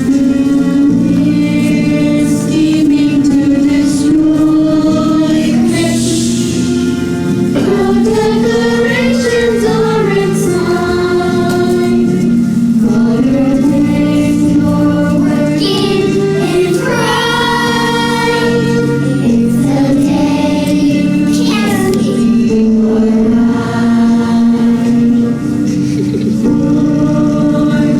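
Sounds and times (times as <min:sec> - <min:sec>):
choir singing: 0:00.0 - 0:27.9.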